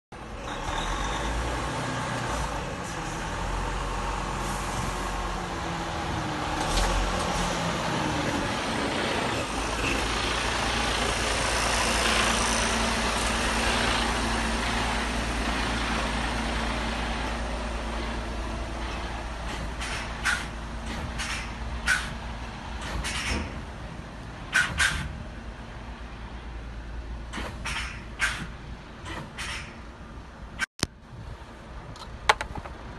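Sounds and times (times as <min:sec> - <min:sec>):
tyre and trailer noise: 0:00.1 - 0:32.9
truck diesel engine running: 0:00.2 - 0:27.3.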